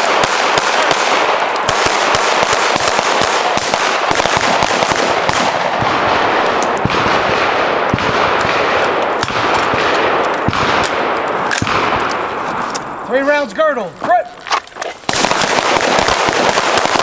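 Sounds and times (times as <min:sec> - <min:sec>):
rapid overlapping gunfire: 0:00.0 - 0:13.5, 0:15.0 - 0:17.0.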